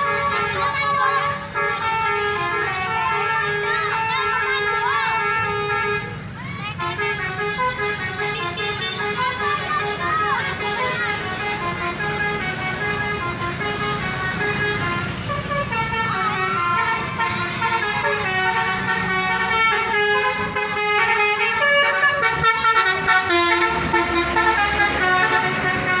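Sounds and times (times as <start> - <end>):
bus engine running: 0.0 - 26.0
multi-tone air horn melody: 0.0 - 26.0.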